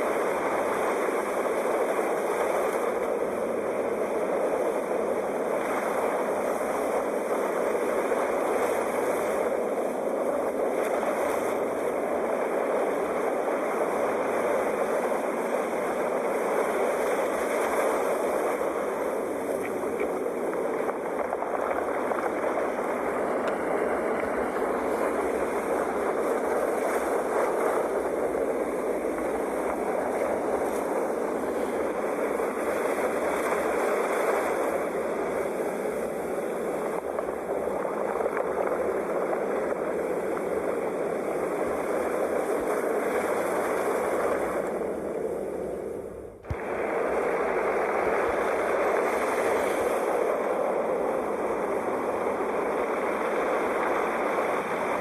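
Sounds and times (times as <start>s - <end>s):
sea waves washing: 0.0s - 55.0s.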